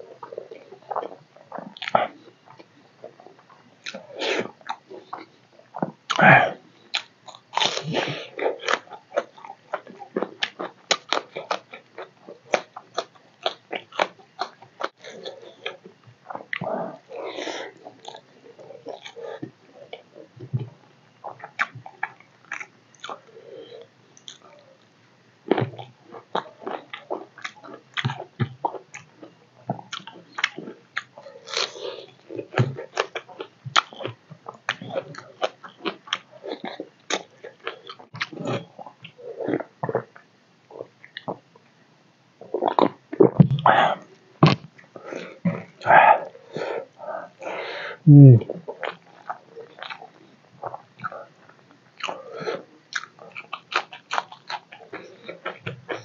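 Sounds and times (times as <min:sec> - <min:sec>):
man chewing wetly: 0:00.1 - 0:24.9, 0:25.5 - 0:41.4, 0:42.5 - 0:56.0.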